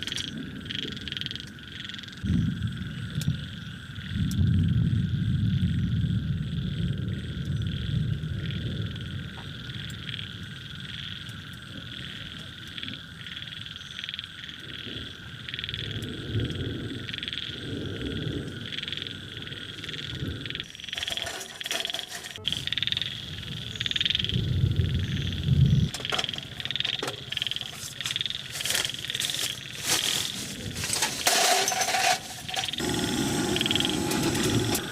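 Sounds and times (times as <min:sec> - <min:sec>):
frogs calling in chorus: 0:00.0 - 0:04.3, 0:07.7 - 0:16.3, 0:17.0 - 0:34.9.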